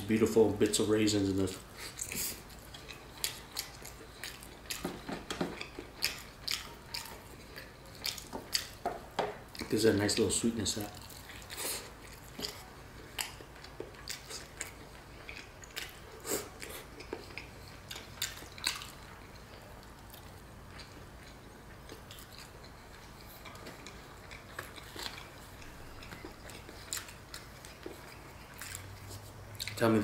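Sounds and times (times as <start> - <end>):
person chewing with wet smacks: 1.4 - 29.8.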